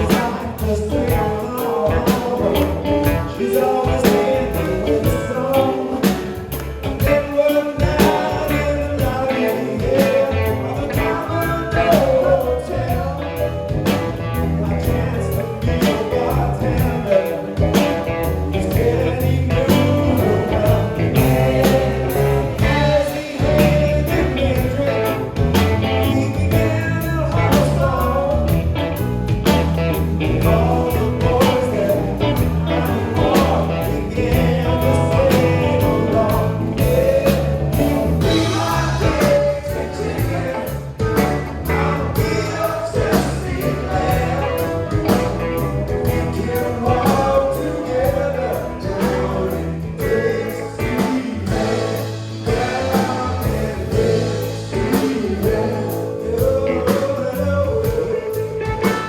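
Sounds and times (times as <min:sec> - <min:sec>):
blues-rock band playing: 0:00.0 - 0:59.0
group singing: 0:00.0 - 0:59.0.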